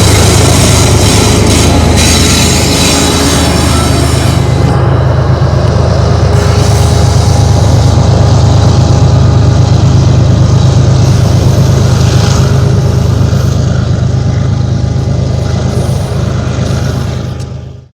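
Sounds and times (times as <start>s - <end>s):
freight train rumbling past: 0.0s - 17.9s.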